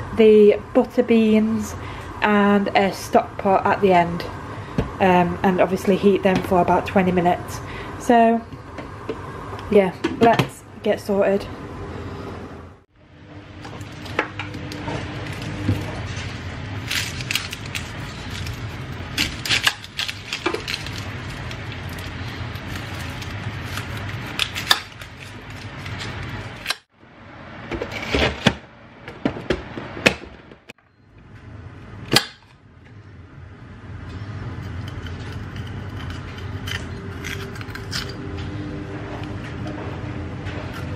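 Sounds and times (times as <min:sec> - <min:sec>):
appliance low hum: 0:00.0 - 0:40.9.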